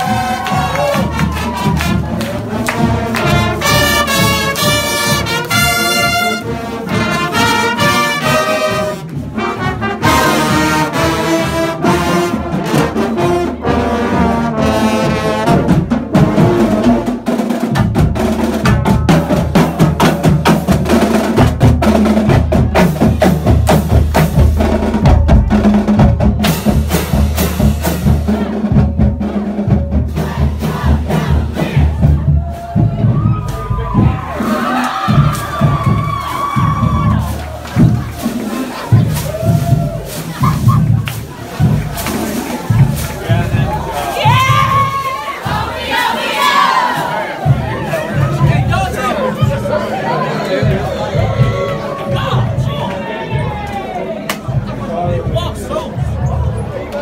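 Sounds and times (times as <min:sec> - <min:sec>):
marching band playing: 0:00.0 - 0:56.9.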